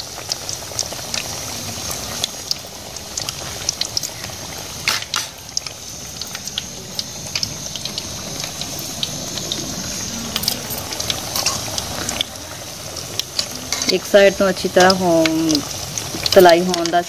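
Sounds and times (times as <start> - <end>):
deep-frying sizzle with pops: 0.0 - 17.0.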